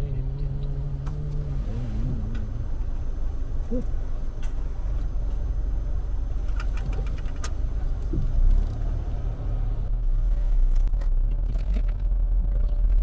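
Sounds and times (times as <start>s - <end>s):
car engine rumble in cabin: 0.0s - 13.0s.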